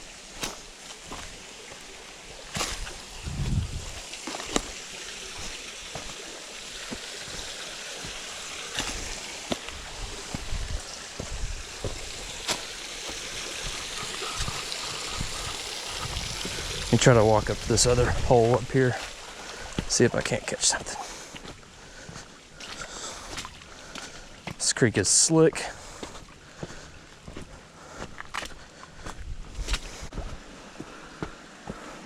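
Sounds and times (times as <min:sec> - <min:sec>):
creek water trickling: 0:00.0 - 0:32.0
water splashes: 0:00.0 - 0:32.0.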